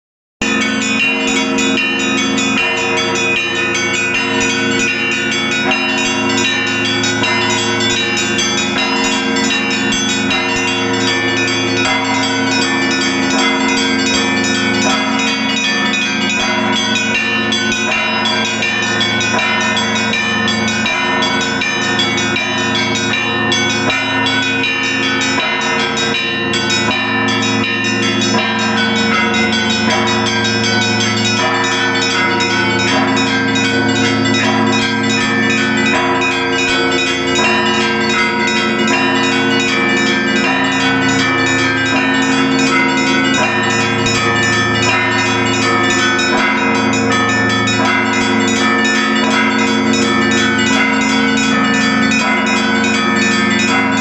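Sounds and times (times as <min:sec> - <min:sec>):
large bells humming: 0:00.4 - 0:54.0
small church bells striking rapidly: 0:00.4 - 0:54.0.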